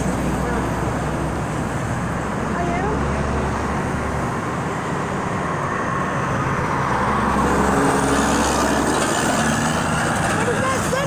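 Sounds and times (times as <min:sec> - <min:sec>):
road traffic passing: 0:00.0 - 0:11.0
truck passing: 0:00.0 - 0:11.0.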